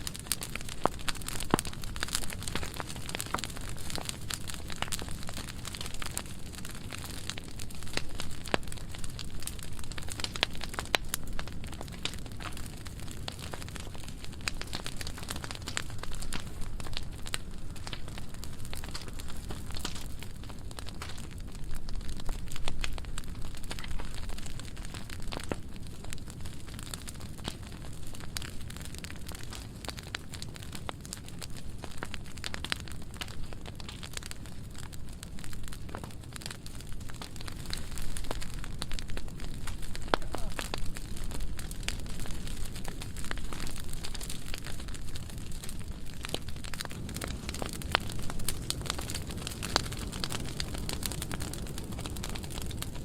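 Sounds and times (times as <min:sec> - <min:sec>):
fire crackling and popping: 0:00.0 - 0:53.0
low fire rumble: 0:00.0 - 0:53.0
low rush of flames: 0:00.0 - 0:53.0.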